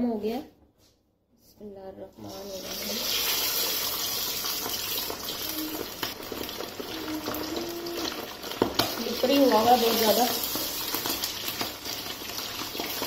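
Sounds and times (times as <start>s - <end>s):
chicken deep-frying in oil: 2.2s - 13.0s.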